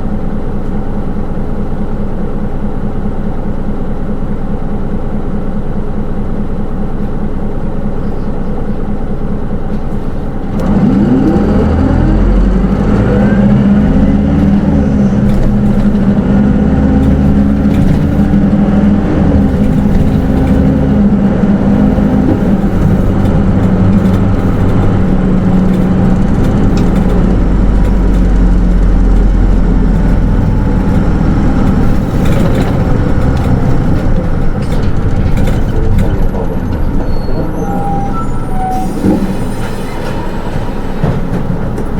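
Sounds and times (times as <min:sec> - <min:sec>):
diesel bus engine and drive whine: 0:00.0 - 0:41.9.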